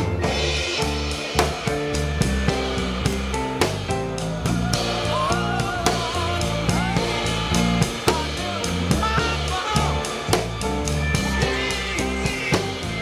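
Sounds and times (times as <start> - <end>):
rock band playing: 0.0 - 13.0
drum hits: 0.1 - 13.0.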